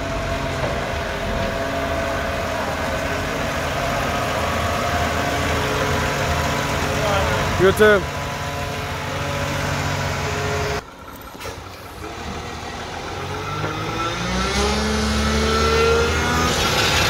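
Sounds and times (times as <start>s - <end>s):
diesel truck engine idling: 0.0s - 17.0s
truck approaching and accelerating: 0.0s - 17.0s.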